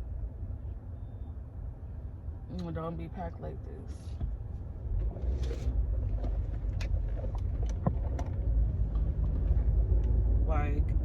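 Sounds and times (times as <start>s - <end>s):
car rumble from inside cabin: 0.0s - 11.0s.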